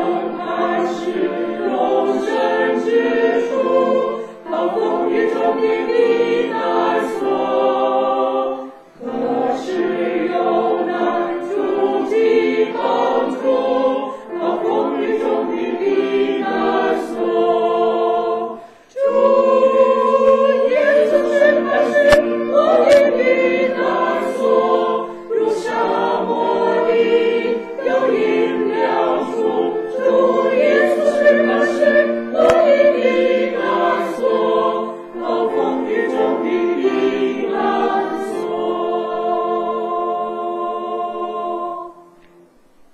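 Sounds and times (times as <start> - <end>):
mixed choir singing a hymn: 0.0 - 42.5.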